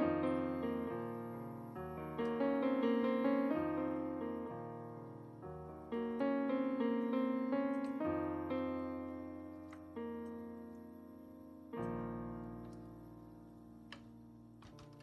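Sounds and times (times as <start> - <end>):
piano playing: 0.0 - 15.0.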